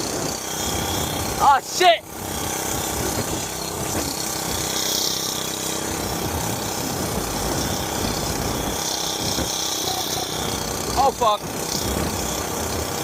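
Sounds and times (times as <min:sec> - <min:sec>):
mini bike engine running: 0:00.0 - 0:13.0.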